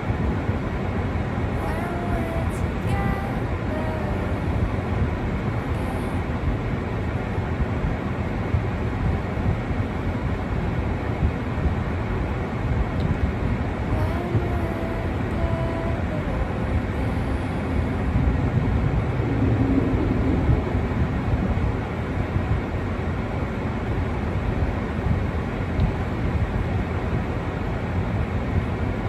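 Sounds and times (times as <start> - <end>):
low rumbling outdoor noise: 0.0 - 29.0.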